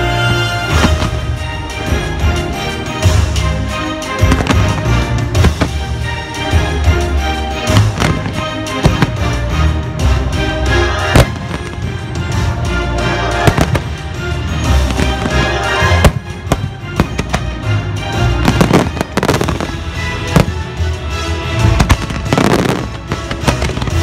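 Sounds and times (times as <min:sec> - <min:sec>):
loud music soundtrack: 0:00.0 - 0:24.0
fireworks bangs and crackles: 0:00.2 - 0:12.7, 0:13.3 - 0:24.0.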